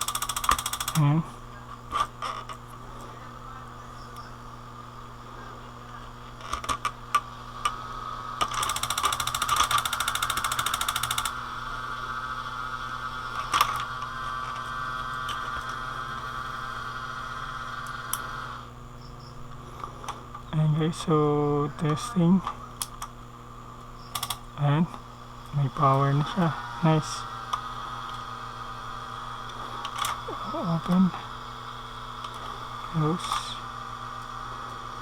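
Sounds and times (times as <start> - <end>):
disc mechanism buzzing and whining: 0.0 - 35.0.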